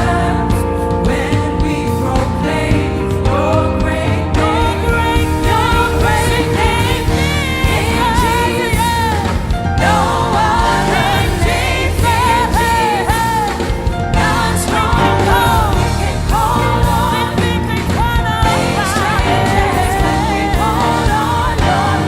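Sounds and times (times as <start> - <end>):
band with steady bass: 0.0 - 22.0
gospel singers: 0.0 - 22.0.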